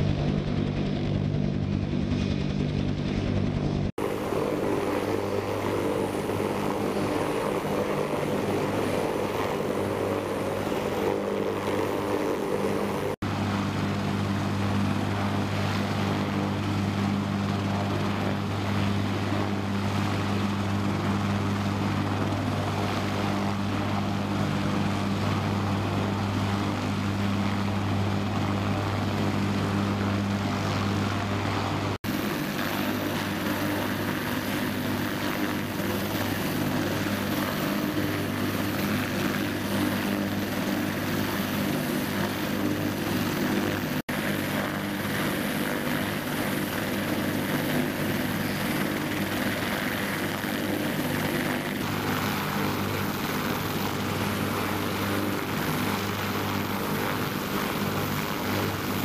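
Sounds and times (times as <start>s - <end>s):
helicopter turbine and rotor drone: 0.0s - 59.0s.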